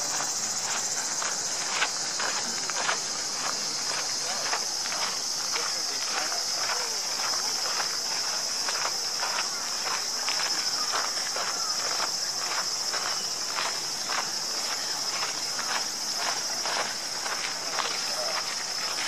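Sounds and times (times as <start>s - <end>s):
footsteps on gravel: 0.0s - 19.0s
insects chirping: 0.0s - 19.0s.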